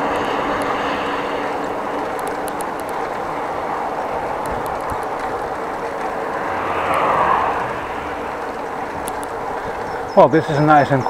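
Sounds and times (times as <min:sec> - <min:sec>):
road traffic noise: 0:00.0 - 0:11.0
vehicle passing: 0:00.0 - 0:11.0.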